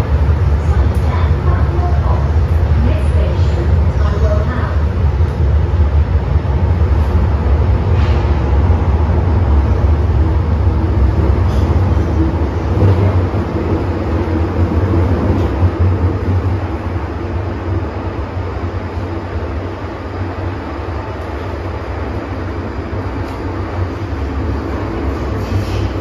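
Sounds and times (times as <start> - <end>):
train rumbling on rail: 0.0 - 26.0.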